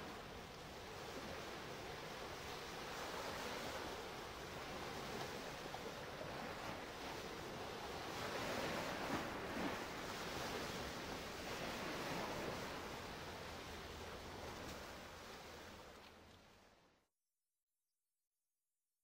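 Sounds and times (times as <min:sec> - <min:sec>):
wind on microphone: 0:00.0 - 0:15.9.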